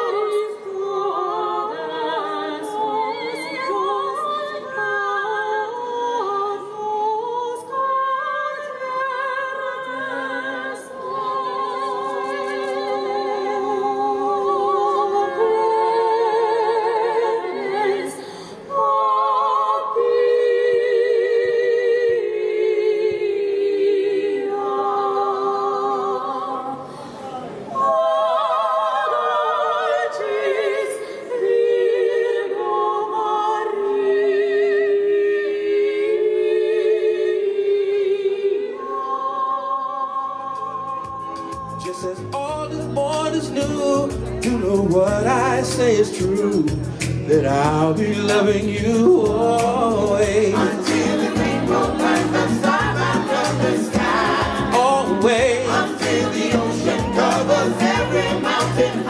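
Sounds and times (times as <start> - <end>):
operatic voices singing: 0.0 - 59.0.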